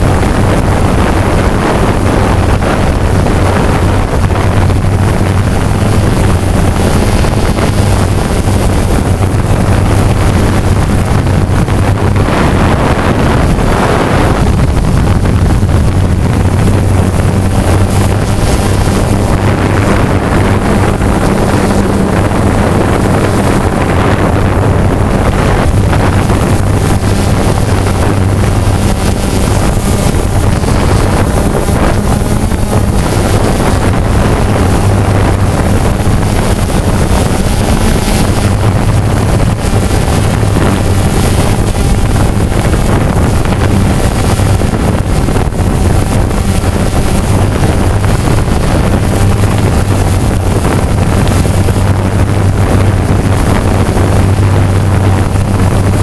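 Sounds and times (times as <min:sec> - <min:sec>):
drone motors humming: 0:00.0 - 0:56.0
wind on microphone: 0:00.0 - 0:56.0.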